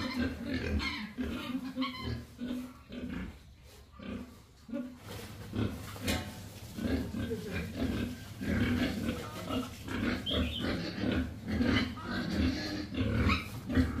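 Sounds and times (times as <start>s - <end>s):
young pigs grunting: 0.0s - 14.0s.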